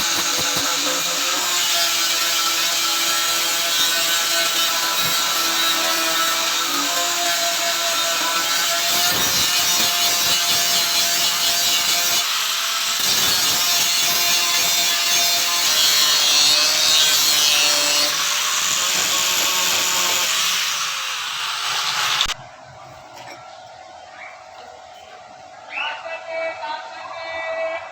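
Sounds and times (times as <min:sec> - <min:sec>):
power tool grinding: 0:00.0 - 0:22.4.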